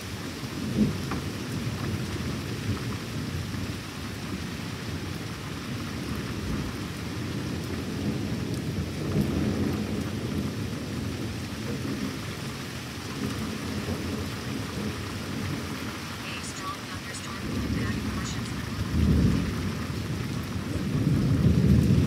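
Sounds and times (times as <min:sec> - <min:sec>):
steady rain: 0:00.0 - 0:22.0
thunder rumbling: 0:00.6 - 0:22.0.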